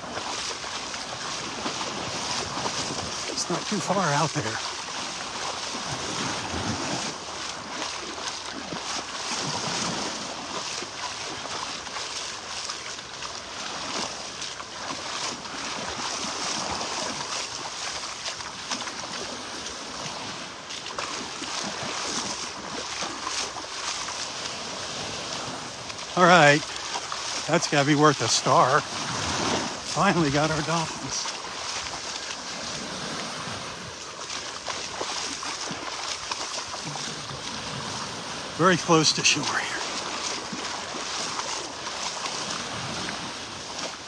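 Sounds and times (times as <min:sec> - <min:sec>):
small waves lapping: 0:00.0 - 0:44.0.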